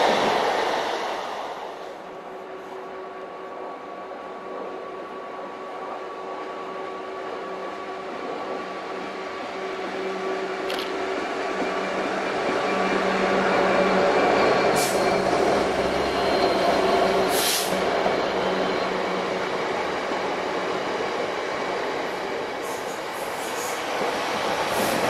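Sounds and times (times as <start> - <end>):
diesel locomotive engine: 0.0 - 25.0
train wagons rumbling over rails: 0.0 - 25.0.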